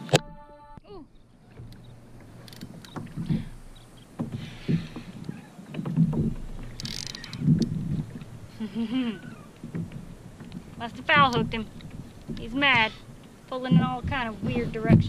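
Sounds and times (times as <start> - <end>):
water thumping against kayak hull: 1.4 - 8.6, 9.2 - 15.0.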